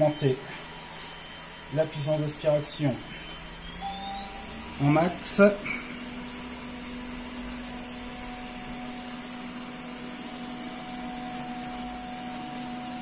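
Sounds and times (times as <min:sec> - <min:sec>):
robot vacuum motor hum: 0:00.6 - 0:13.0.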